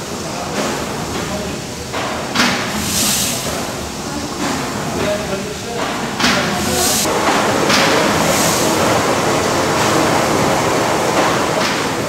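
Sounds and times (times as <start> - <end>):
steam engine running: 0.0 - 12.0
steam hissing: 0.0 - 12.0.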